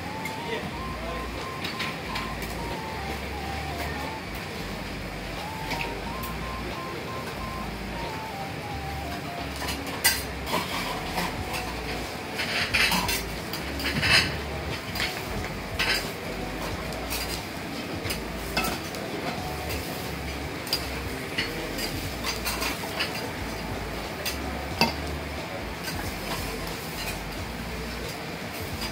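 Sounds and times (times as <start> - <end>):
kitchen background noise: 0.0 - 28.9.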